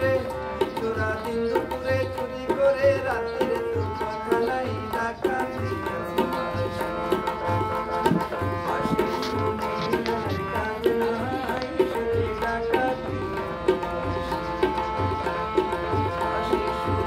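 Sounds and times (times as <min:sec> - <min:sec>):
harmonium chords: 0:00.0 - 0:17.0
tabla rhythm: 0:00.0 - 0:17.0.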